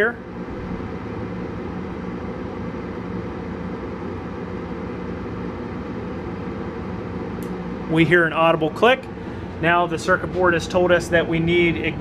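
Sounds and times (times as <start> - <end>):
fan motor hum: 0.0 - 12.0.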